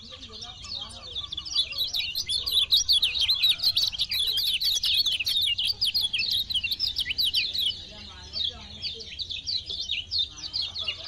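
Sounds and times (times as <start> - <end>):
bird twittering song: 0.0 - 11.0.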